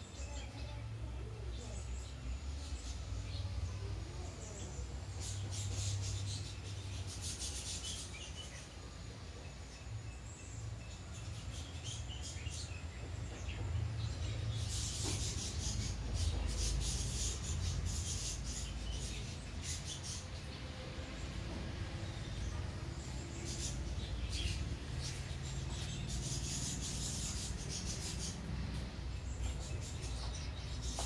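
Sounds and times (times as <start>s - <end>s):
small birds twittering: 0.0s - 31.0s.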